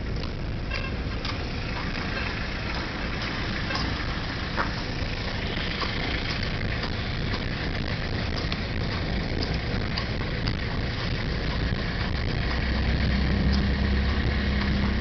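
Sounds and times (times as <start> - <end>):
car engine running at low speed: 0.0 - 15.0
horse hooves on asphalt: 0.0 - 15.0.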